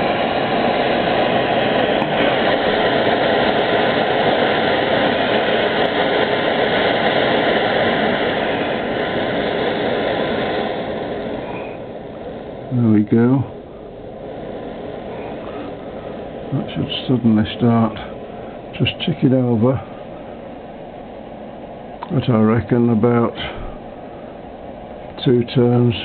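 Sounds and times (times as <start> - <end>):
gas burner flame rushing: 0.0 - 26.0.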